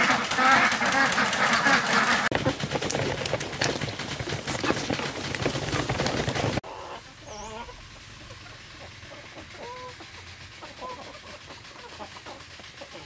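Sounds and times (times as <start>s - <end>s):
chickens clucking: 0.0s - 13.0s
ducks dabbling grain rustle: 0.0s - 13.0s.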